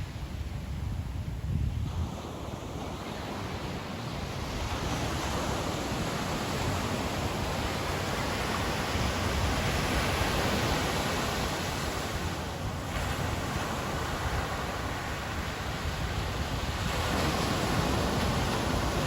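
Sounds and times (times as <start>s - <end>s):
ocean waves breaking: 1.8s - 19.0s.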